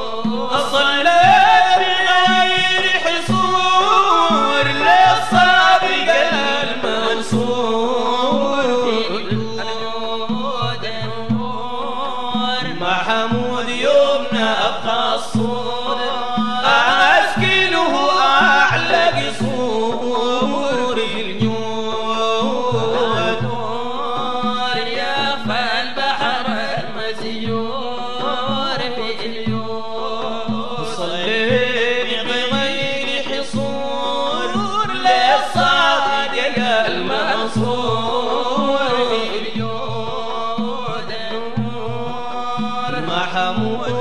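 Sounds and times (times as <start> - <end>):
low drum beat: 0.0 - 44.0
voices chanting: 0.0 - 44.0.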